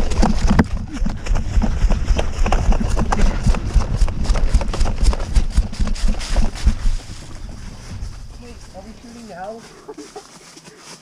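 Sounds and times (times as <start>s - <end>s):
running footsteps: 0.0s - 11.0s.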